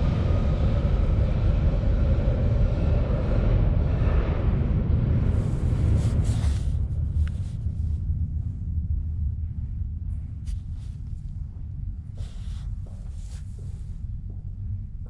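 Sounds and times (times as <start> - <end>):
underground train rumble: 0.0 - 15.0.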